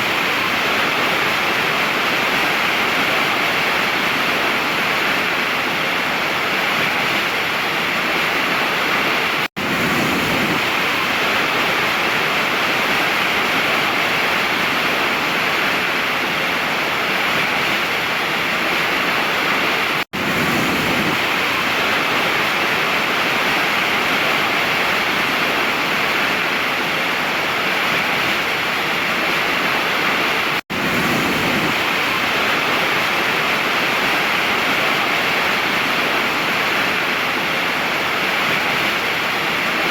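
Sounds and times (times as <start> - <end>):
waterfall rush: 0.0 - 39.9.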